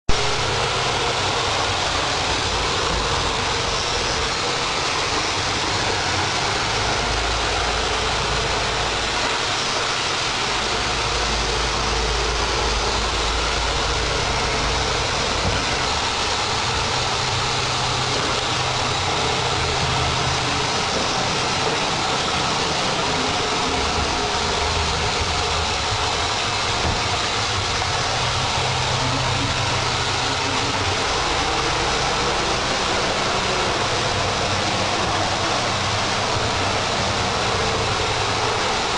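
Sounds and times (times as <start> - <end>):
robot vacuum cleaner whirring: 0.1 - 38.9.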